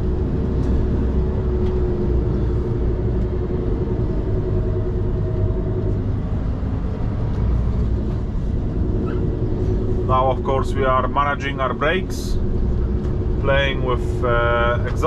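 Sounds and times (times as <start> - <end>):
road rumble: 0.0 - 15.0
truck diesel engine running: 0.0 - 15.0.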